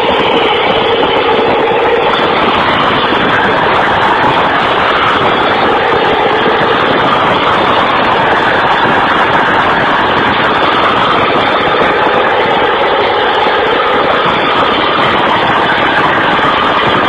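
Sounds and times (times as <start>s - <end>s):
heavy machinery engine rumbling: 0.0s - 17.0s.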